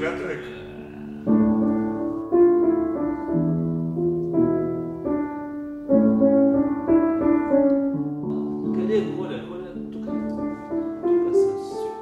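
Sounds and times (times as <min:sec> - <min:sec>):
slow gentle piano music: 0:00.0 - 0:12.0.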